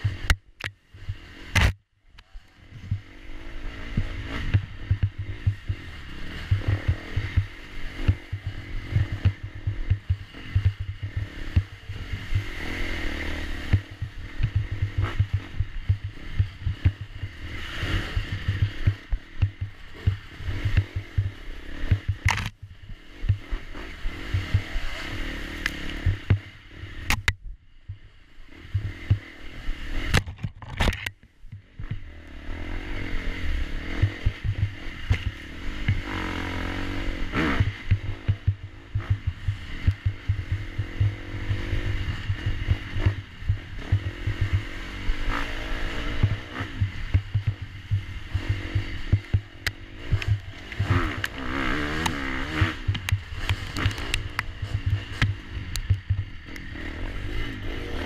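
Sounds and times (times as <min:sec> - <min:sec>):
dirt bike engine revving: 0:02.4 - 0:27.3, 0:28.0 - 0:30.2, 0:31.6 - 0:58.0.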